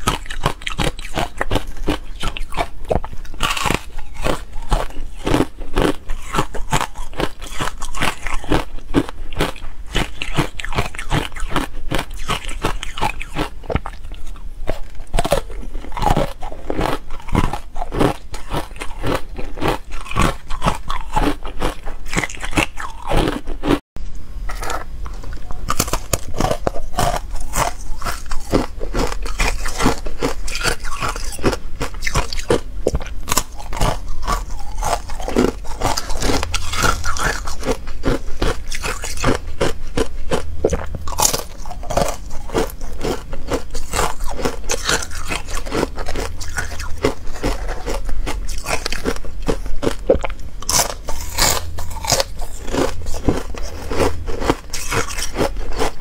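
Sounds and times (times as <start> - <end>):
crunching and chewing ice: 0.0 - 23.8, 24.5 - 56.0.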